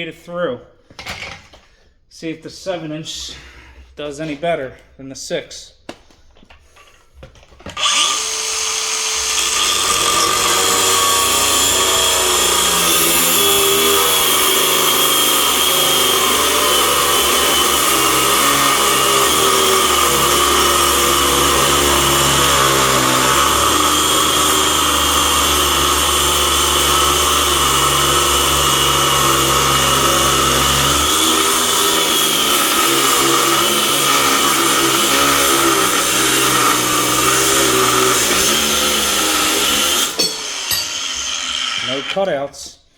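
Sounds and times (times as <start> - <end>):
angle grinder cutting steel: 7.8 - 42.5.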